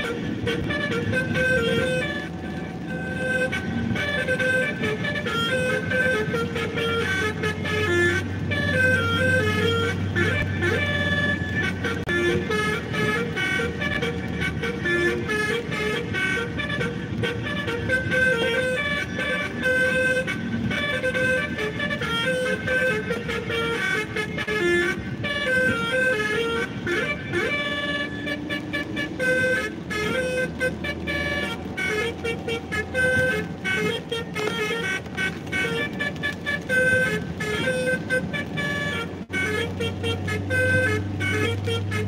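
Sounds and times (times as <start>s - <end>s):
multi-tone horn playing tune: 0.0s - 42.0s
vehicle rumble: 0.0s - 42.0s.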